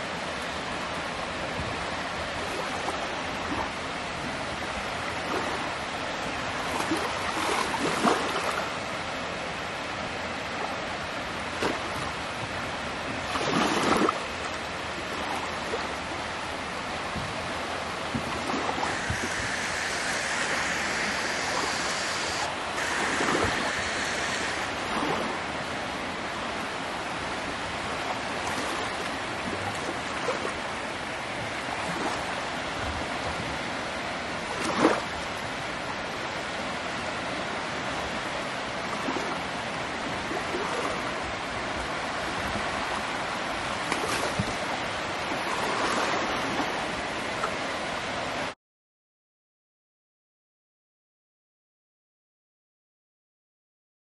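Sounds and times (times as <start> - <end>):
ocean surf: 0.0 - 48.6.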